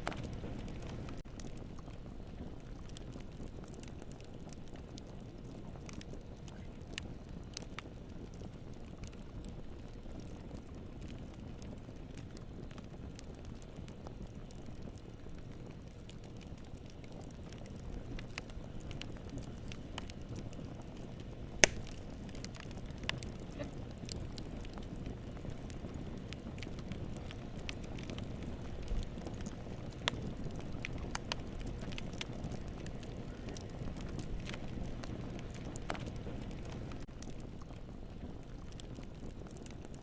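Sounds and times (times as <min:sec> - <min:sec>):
fire crackling: 0:00.0 - 0:40.0
fire pops and snaps: 0:00.0 - 0:40.0.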